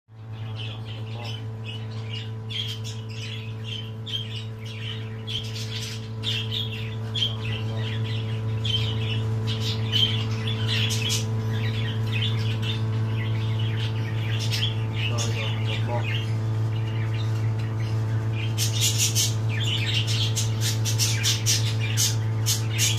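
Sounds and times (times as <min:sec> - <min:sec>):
low hum: 0:00.1 - 0:22.9
birds squawking and chirping: 0:00.2 - 0:22.9.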